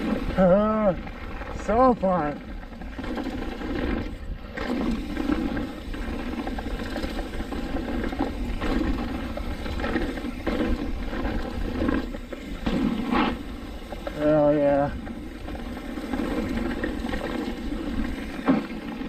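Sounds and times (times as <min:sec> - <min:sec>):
bike tyres on dirt trail: 0:00.0 - 0:19.0.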